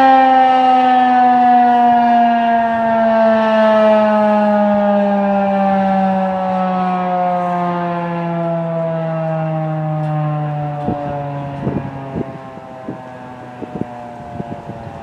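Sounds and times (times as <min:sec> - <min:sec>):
tornado siren winding down: 0:00.0 - 0:15.0.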